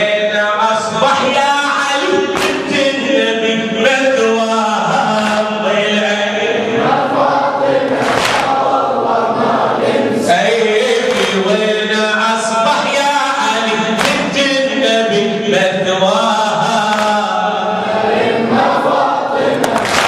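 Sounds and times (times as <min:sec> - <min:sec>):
men chanting in chorus: 0:00.0 - 0:20.0.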